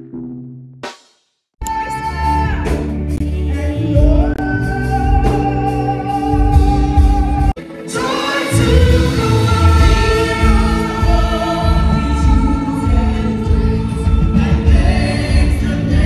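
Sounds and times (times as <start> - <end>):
person singing a carol with band: 1.6 - 16.0.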